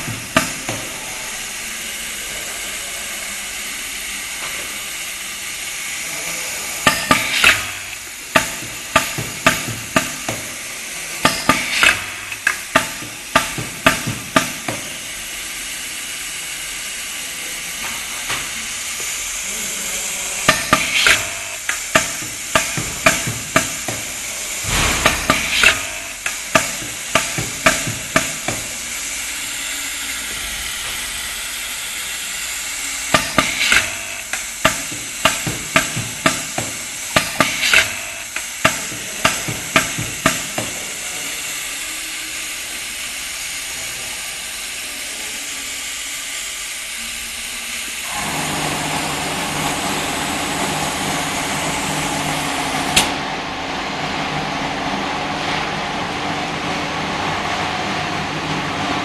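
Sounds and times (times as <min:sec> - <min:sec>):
steady hiss: 0:00.0 - 0:48.1.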